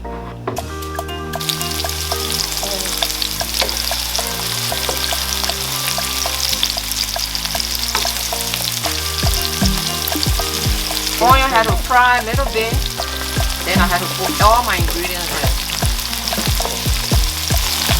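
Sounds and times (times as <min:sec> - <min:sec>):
onions sizzling in hot oil: 0:01.4 - 0:17.9.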